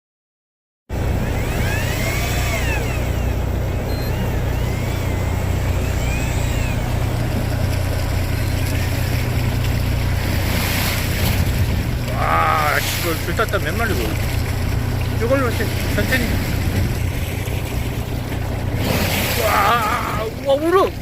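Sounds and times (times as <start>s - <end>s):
boat engine humming: 0.9s - 21.0s
water noise: 0.9s - 21.0s
wind: 0.9s - 21.0s.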